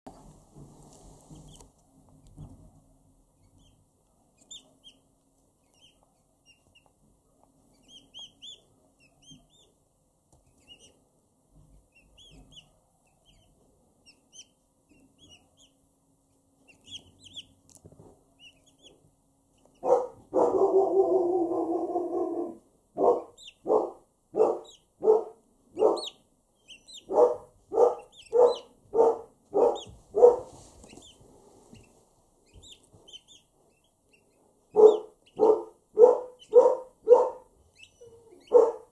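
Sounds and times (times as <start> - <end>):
poults peeping: 3.4 - 9.8, 10.4 - 11.0, 11.8 - 38.9.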